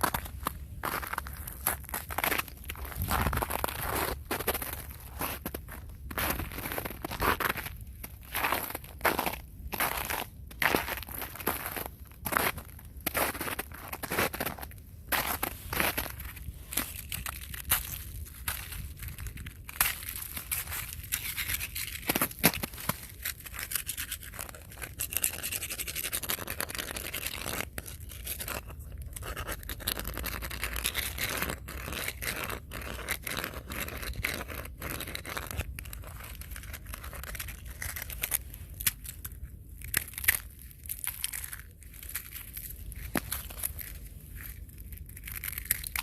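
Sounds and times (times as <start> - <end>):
steady low rumble: 0.0 - 33.0, 33.6 - 46.0
dry crunching and crackling: 0.0 - 46.0.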